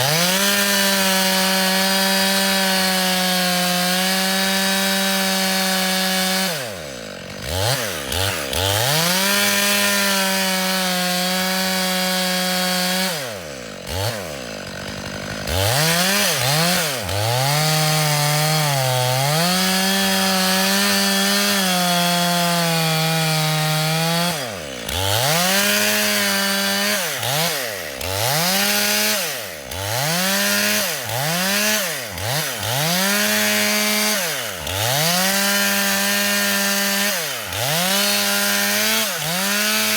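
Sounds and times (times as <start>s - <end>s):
chainsaw sawing through wood: 0.0s - 39.9s.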